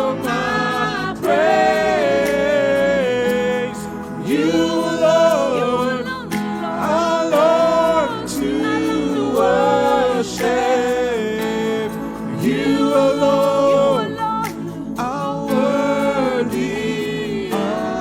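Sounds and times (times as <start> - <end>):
worship team singing held notes: 0.0 - 18.0.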